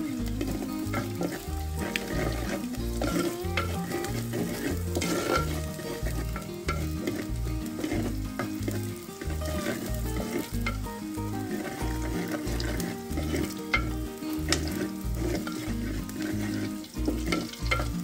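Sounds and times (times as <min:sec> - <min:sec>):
onion sizzling in oil: 0:00.0 - 0:18.0
wooden spoon scraping a pot: 0:00.0 - 0:18.0.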